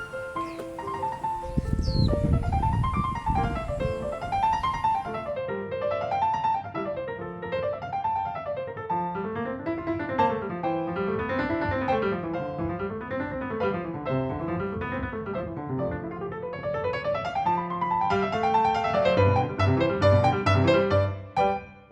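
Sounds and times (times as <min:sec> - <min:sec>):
piano arpeggios: 0:00.0 - 0:21.9.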